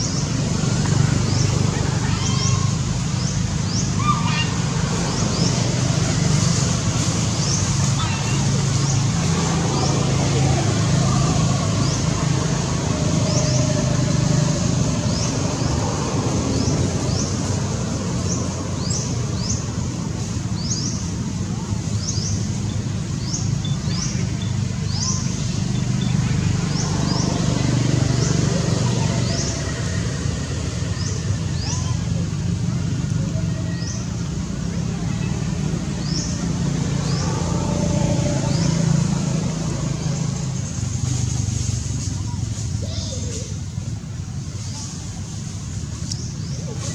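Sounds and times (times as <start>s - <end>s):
low vehicle rumble: 0.0s - 46.9s.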